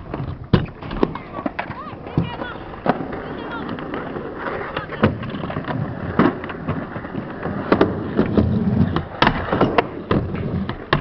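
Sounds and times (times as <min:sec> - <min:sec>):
skateboard clacks: 0:00.0 - 0:11.0
wheels rumbling on concrete: 0:00.0 - 0:11.0.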